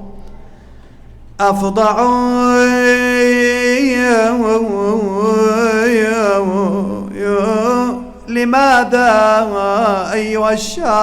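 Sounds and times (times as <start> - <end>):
man chanting melismatic poetry: 1.4 - 11.0.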